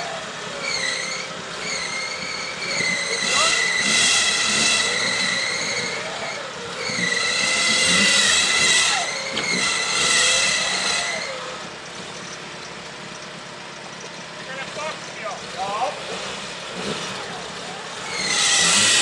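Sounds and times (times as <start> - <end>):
electric winch whining: 0.0 - 14.6, 17.9 - 19.0
truck engine running: 0.0 - 19.0.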